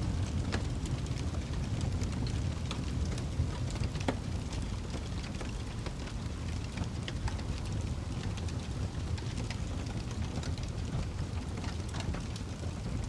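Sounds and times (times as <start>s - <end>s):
fire crackles and pops: 0.0s - 13.0s
low rumble of fire flames: 0.0s - 13.0s.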